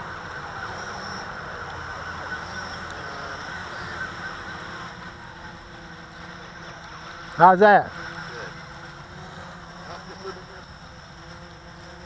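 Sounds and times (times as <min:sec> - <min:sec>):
quadcopter buzzing hum: 0:00.0 - 0:12.0.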